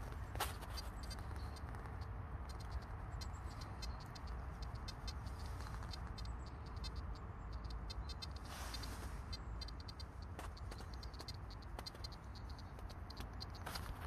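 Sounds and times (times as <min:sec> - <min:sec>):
low outdoor rumble: 0:00.0 - 0:14.0
rapid high ticking: 0:00.0 - 0:14.0.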